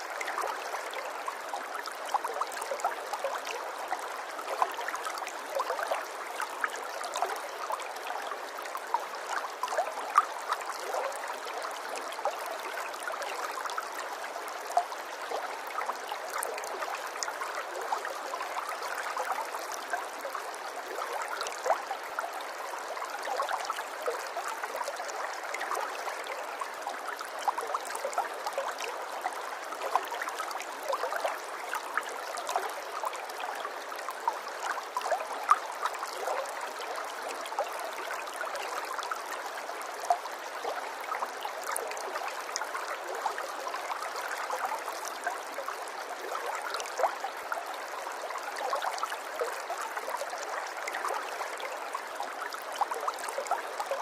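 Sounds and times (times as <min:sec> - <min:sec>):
water trickling and gurgling: 0:00.0 - 0:54.0.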